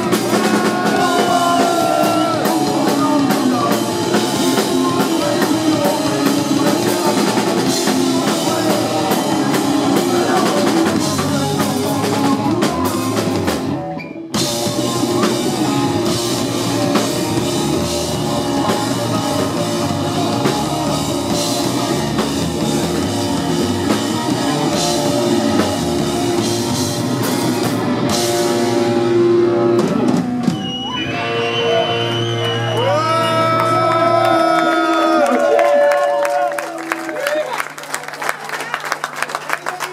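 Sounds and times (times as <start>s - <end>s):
drum kit: 0.0s - 35.0s
bass guitar: 0.0s - 35.2s
electric guitar: 0.0s - 35.6s.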